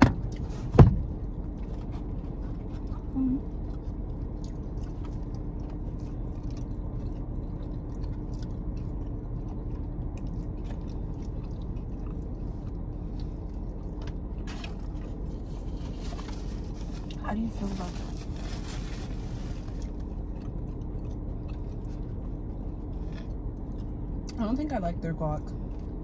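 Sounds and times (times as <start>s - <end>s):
steady low hum: 0.0s - 26.0s
person chewing food: 0.2s - 17.2s, 19.1s - 24.4s.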